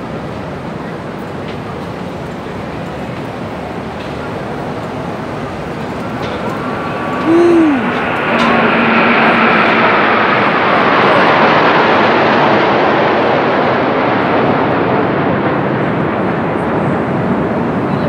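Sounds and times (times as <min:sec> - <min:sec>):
jets flying low overhead: 0:00.0 - 0:18.0.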